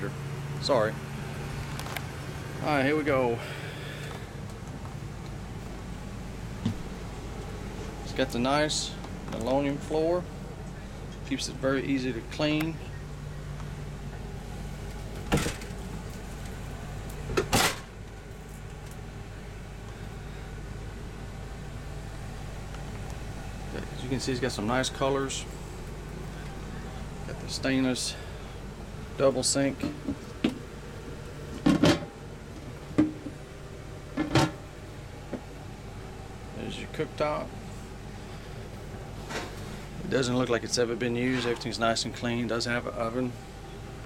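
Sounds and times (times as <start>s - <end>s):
engine idling hum: 0.0s - 44.0s.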